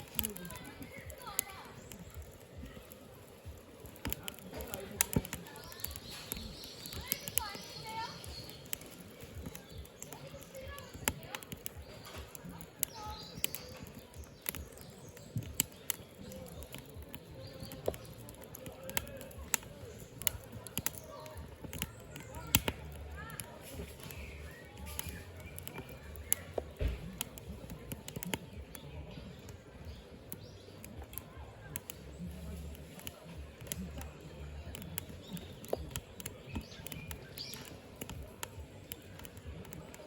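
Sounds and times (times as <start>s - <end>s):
fire rumble: 0.0s - 40.0s
firewood crackling and popping: 0.0s - 40.0s.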